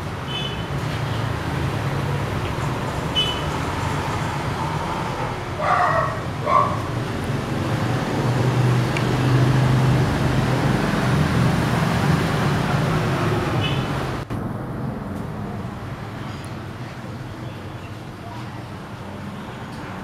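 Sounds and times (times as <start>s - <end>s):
vehicle engine: 0.0s - 17.5s
road traffic noise: 0.0s - 20.0s.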